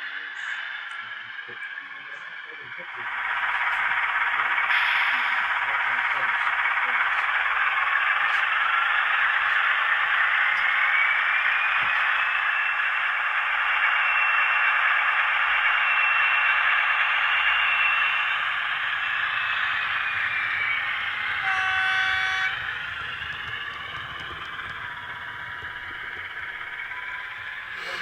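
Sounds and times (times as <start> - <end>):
model diesel engine sound from speaker: 0.0 - 28.0
rising whine: 3.0 - 28.0.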